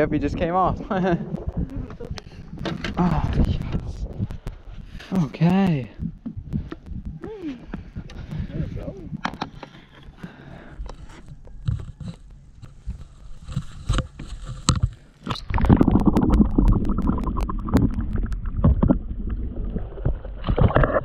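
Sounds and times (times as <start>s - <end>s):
faint water: 0.0s - 21.0s
underwater rushing and gurgling: 0.0s - 21.0s.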